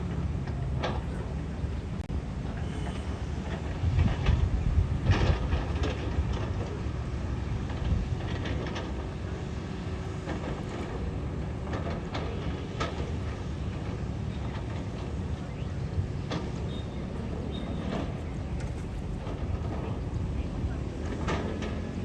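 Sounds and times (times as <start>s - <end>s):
heavy machinery engine rumble: 0.0s - 22.0s.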